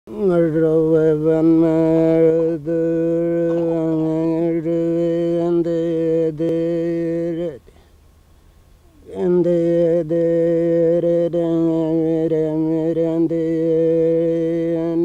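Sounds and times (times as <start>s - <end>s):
man chanting: 0.1s - 7.7s, 8.9s - 15.0s.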